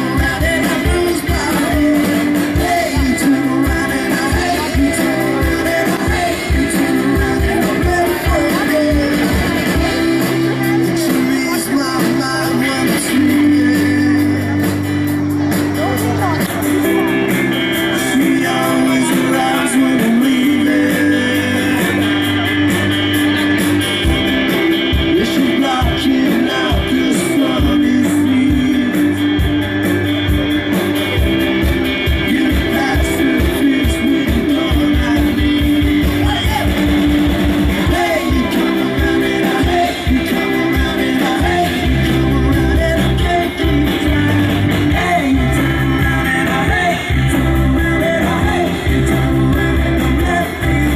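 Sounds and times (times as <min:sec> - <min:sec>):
man singing into a microphone: 0:00.0 - 0:15.1, 0:17.0 - 0:23.4, 0:24.7 - 0:30.2, 0:32.0 - 0:50.9
acoustic guitar: 0:00.0 - 0:50.9
drum kit: 0:00.0 - 0:50.9
electric guitar: 0:00.0 - 0:50.9.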